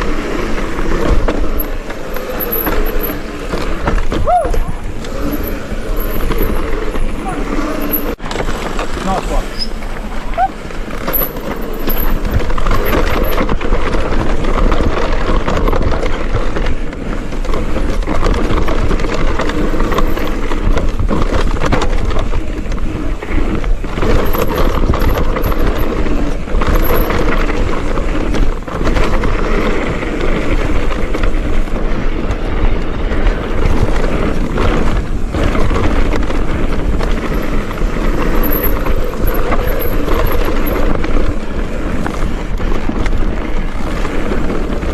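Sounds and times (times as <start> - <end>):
bike rattles and knocks: 0.0 - 44.9
tyre and wind noise: 0.0 - 44.9.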